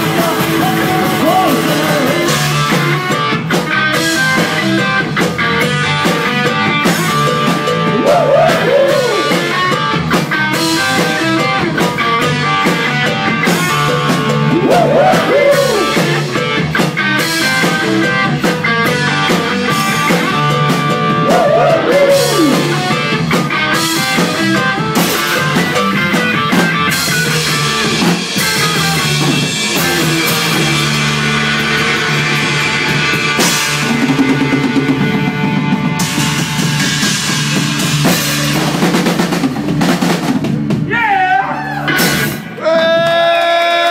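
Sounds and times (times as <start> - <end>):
bass guitar: 0.0 - 43.9
drum kit: 0.0 - 43.9
electric guitar: 0.0 - 43.9.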